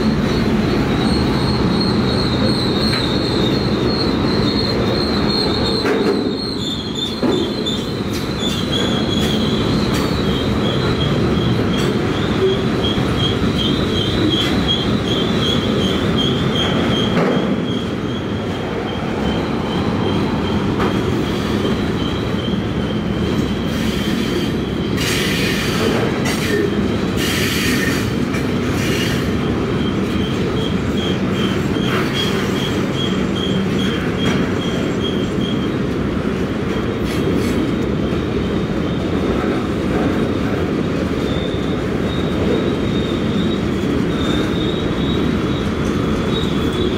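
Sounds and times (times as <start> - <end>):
high pulsing wheel squeal: 0.0 - 35.8, 40.9 - 46.9
freight train wheels rumbling: 0.0 - 46.9.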